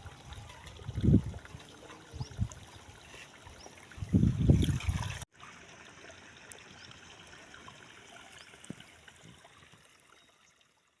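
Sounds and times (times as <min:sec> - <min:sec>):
small stream trickling: 0:00.0 - 0:11.0.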